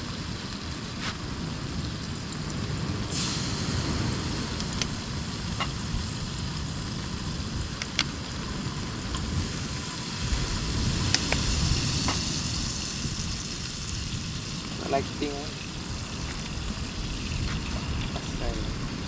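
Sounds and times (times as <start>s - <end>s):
camping stove rush: 0.0s - 19.0s
oil sizzling in a frying pan: 0.0s - 19.0s
oil popping: 2.5s - 18.4s.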